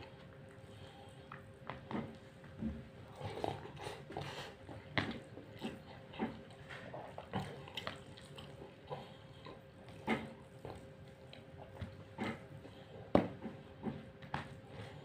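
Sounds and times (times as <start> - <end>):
faint steady hum: 0.0 - 15.0
wet chewing and eating clicks: 0.0 - 15.0.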